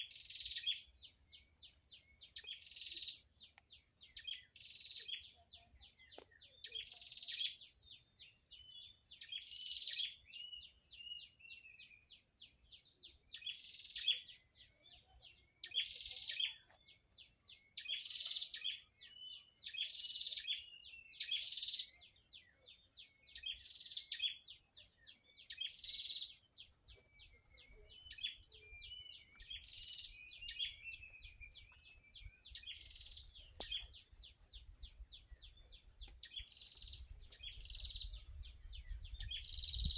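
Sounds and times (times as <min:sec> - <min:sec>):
bird song phrase: 0:00.0 - 0:39.9.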